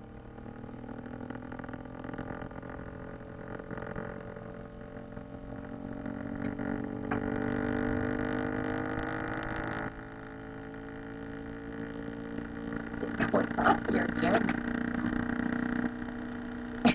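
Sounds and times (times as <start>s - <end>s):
engine running: 0.0s - 16.9s.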